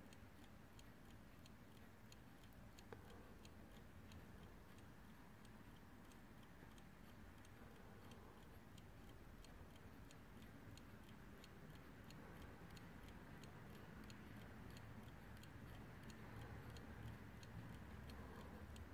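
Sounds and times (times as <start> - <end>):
clock ticking: 0.0 - 18.9.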